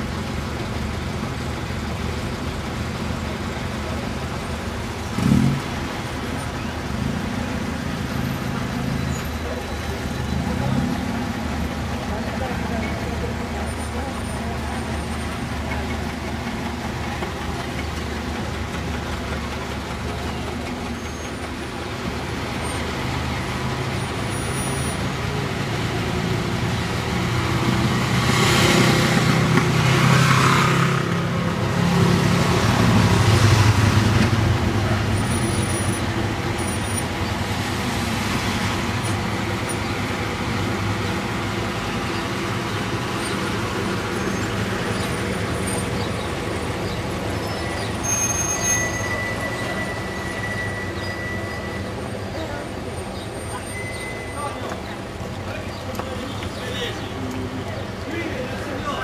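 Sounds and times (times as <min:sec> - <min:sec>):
cars driving slowly past: 0:00.0 - 0:59.0.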